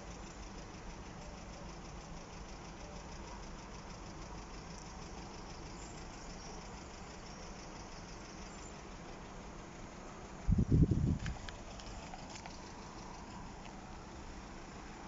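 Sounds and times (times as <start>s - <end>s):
engines idling: 0.0s - 15.0s.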